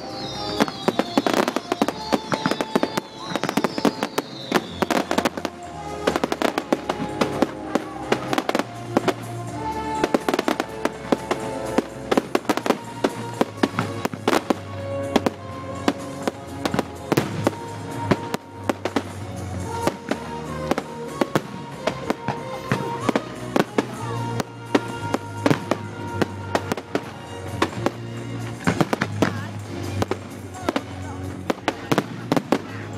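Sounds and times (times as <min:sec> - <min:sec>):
fireworks bangs and crackles: 0:00.0 - 0:32.9
music: 0:00.0 - 0:32.9.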